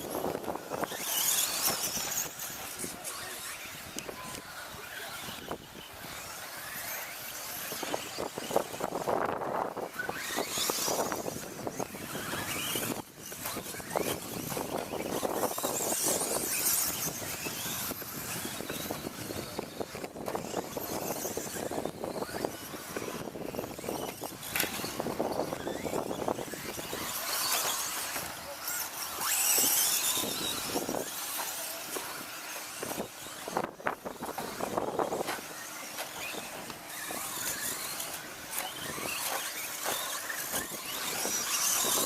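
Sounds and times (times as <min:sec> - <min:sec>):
small motors running: 0:00.0 - 0:42.0
tyres skidding: 0:04.9 - 0:42.0.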